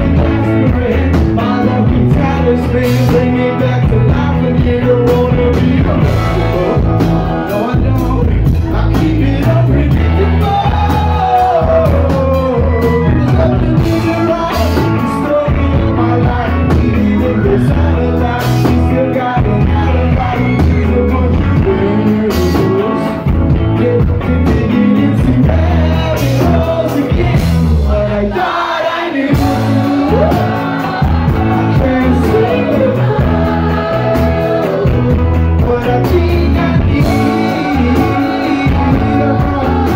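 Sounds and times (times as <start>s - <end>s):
live rock band playing: 0.0s - 39.9s
person singing lead vocal: 0.0s - 39.9s.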